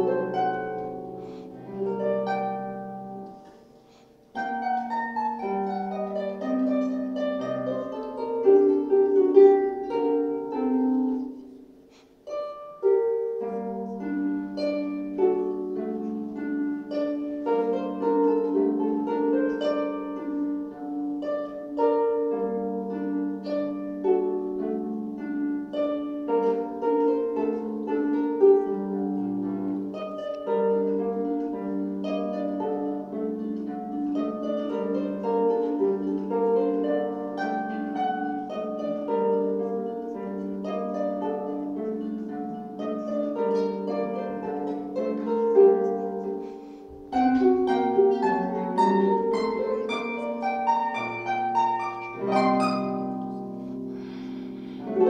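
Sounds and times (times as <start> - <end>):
harp plucked notes: 0.0 - 55.0.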